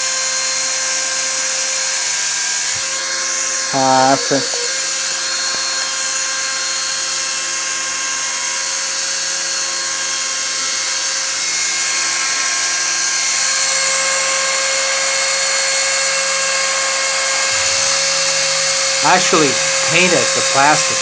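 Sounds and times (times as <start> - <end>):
router spindle whining: 0.0 - 21.0.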